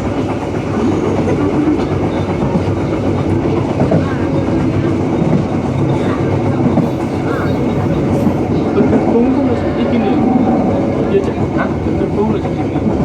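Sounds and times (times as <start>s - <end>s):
faint voices: 0.0s - 13.0s
train wheels rumbling: 0.0s - 13.0s.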